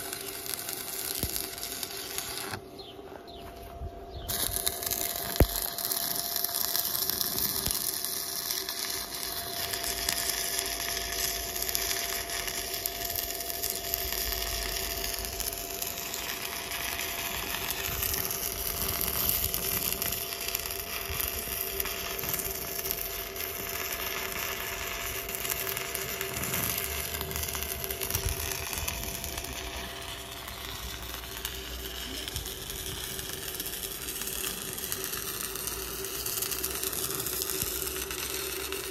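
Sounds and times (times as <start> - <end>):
welding arc crackling: 0.0 - 2.9, 4.2 - 38.9
electrical hum: 0.0 - 38.9.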